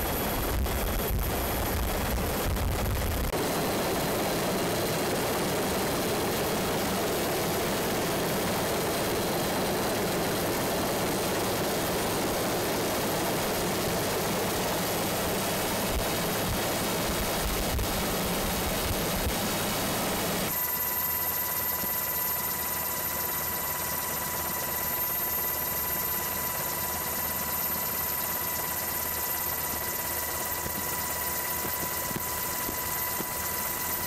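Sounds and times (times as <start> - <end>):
aircraft engine and airflow noise: 0.0 - 34.0.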